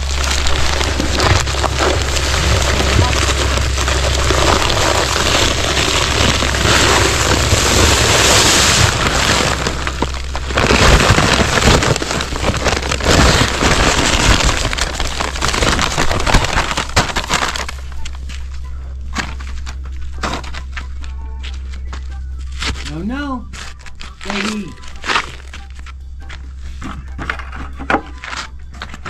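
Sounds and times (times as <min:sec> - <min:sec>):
dry concrete mix pouring: 0:00.0 - 0:20.8, 0:22.6 - 0:25.8
paper bag rustling: 0:00.0 - 0:29.0.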